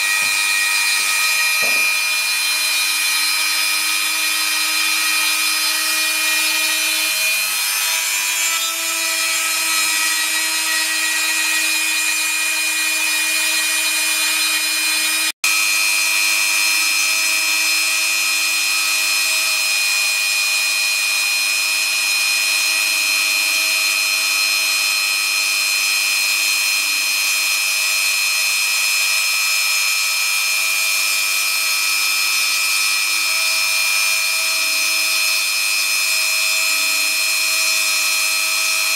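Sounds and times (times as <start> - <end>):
rotary tool milling foam: 0.0 - 38.9.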